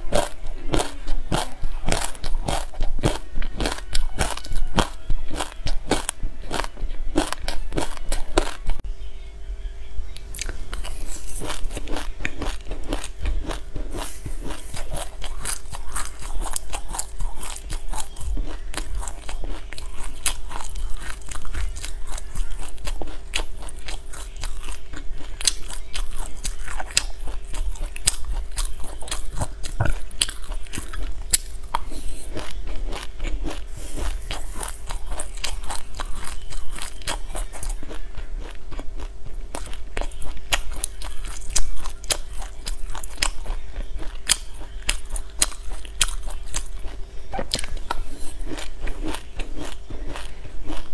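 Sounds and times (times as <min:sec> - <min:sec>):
crunching and chewing seeds: 0:00.0 - 0:08.8, 0:10.1 - 0:50.9.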